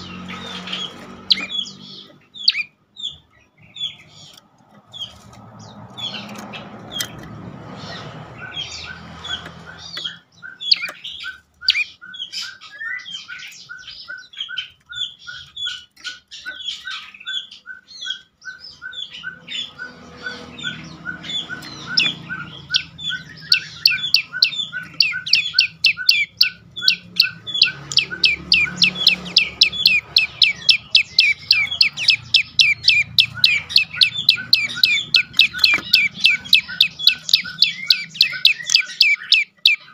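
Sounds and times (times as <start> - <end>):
bird sharp downward chirps: 7.8 - 39.9.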